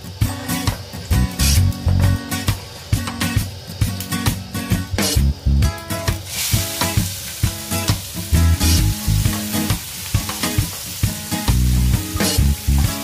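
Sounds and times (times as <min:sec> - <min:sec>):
background music: 0:00.0 - 0:13.0
vegetables sizzling in hot oil: 0:00.0 - 0:13.0.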